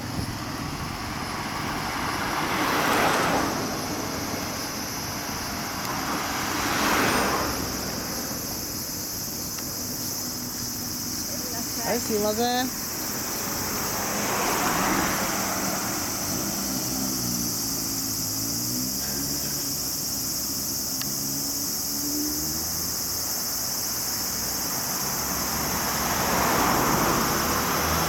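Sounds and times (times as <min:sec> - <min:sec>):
cars passing: 0:00.0 - 0:28.0
high insect hiss: 0:00.0 - 0:28.0.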